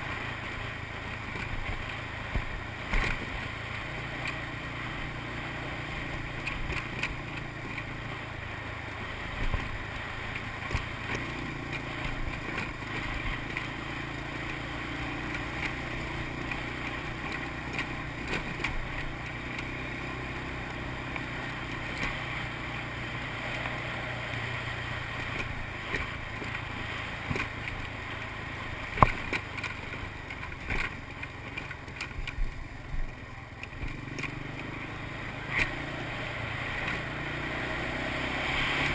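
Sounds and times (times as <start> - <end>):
quad bike engine running: 0.0 - 38.9.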